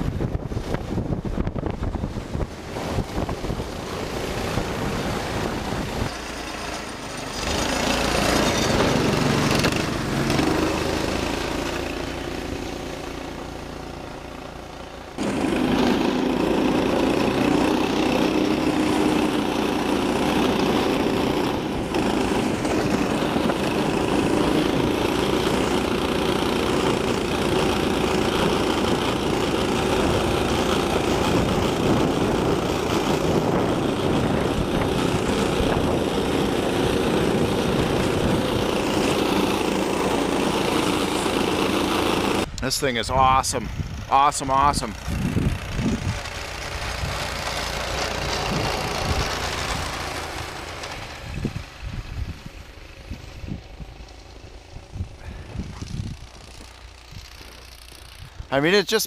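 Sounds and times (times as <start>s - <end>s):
small engine running under load: 0.0s - 42.6s, 43.4s - 58.8s.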